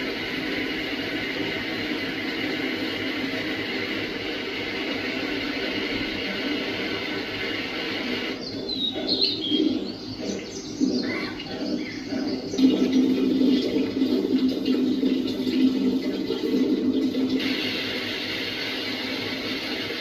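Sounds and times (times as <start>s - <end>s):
steady rush of noise: 0.0s - 20.0s.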